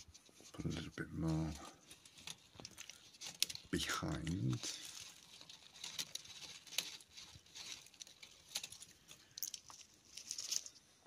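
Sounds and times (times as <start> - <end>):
mulch rustling and crackling: 0.0 - 11.0.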